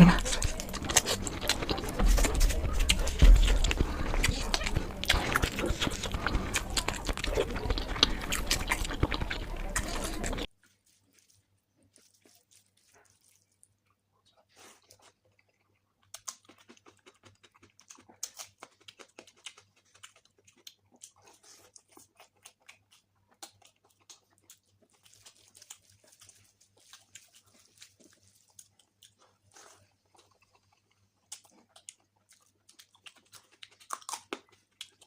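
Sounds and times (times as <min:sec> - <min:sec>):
chewing with mouth clicks: 0:00.0 - 0:35.0.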